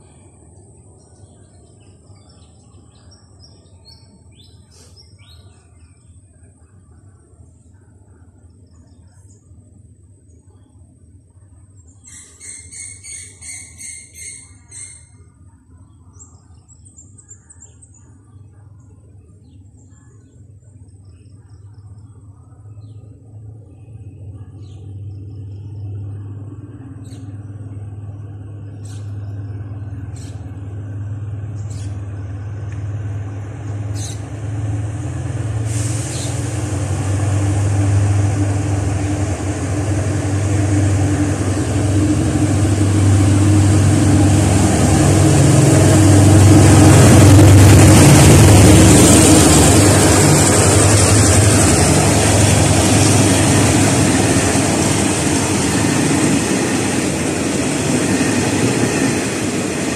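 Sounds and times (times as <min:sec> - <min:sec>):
wheels hissing on rails: 0:00.0 - 0:10.0, 0:16.6 - 0:59.9
diesel locomotive engine rumble: 0:00.0 - 0:59.9.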